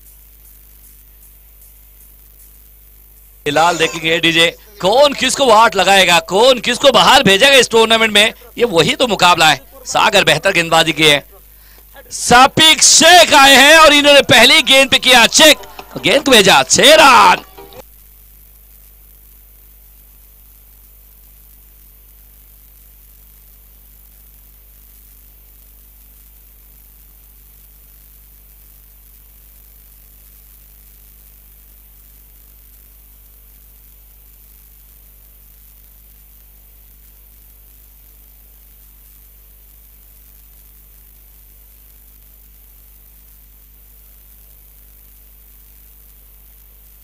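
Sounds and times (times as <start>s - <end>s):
electrical hum and hiss: 0.0s - 47.0s.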